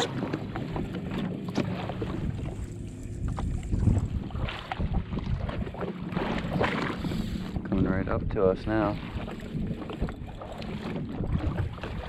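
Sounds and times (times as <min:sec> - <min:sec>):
water against hull: 0:00.0 - 0:12.0
wind on microphone: 0:00.0 - 0:12.0.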